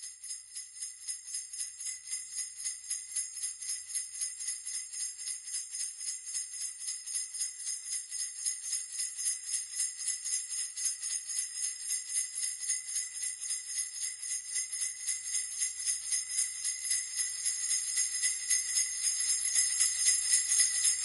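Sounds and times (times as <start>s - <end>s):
sleigh bells jingling: 0.0s - 21.0s.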